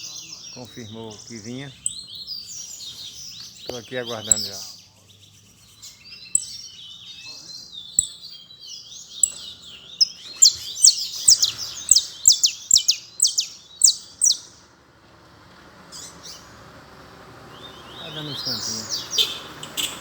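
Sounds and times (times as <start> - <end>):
canary singing: 0.0 - 14.8, 17.5 - 20.0.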